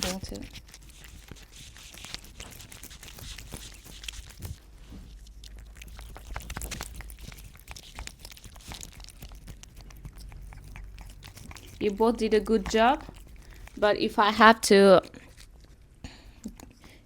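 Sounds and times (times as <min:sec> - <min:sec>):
cats crunching treats: 0:00.0 - 0:17.0.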